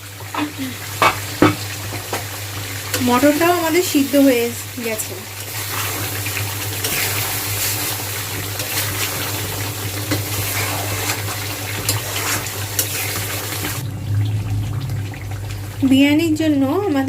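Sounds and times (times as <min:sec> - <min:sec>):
curry bubbling and sizzling: 0:00.0 - 0:17.0.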